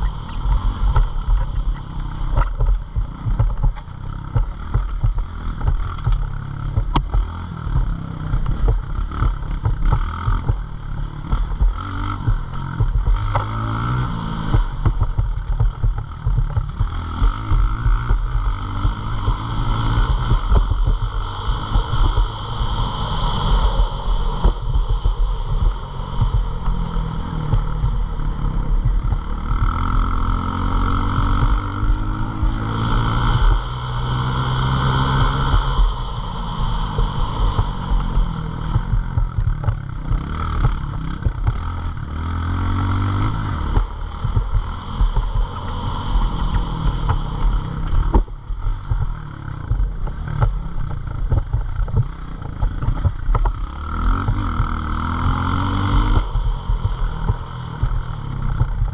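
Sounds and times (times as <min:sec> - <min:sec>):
motorbike engine revving: 0:00.0 - 0:58.9.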